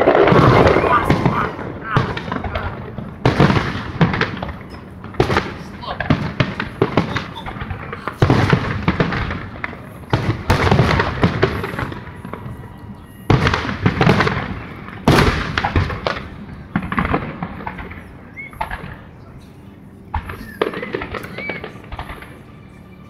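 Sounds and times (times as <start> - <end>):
fireworks booming: 0.0 - 22.6
fireworks crackling: 0.0 - 22.8.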